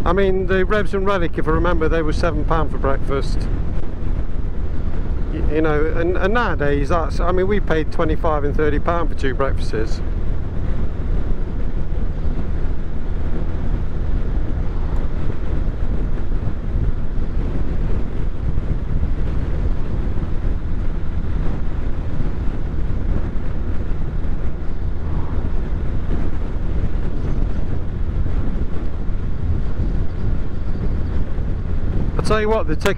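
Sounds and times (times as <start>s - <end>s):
vehicle driving drone: 0.0s - 32.9s
wind on microphone: 0.0s - 32.9s.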